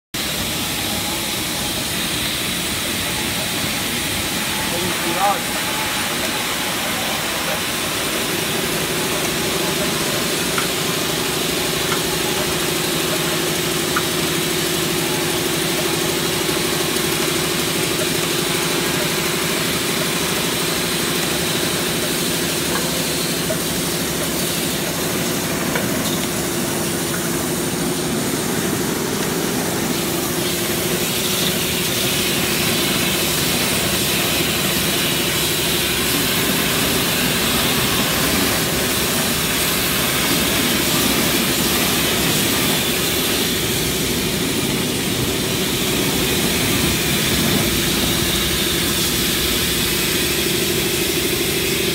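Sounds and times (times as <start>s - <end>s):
bottling machine humming: 0.2s - 51.9s.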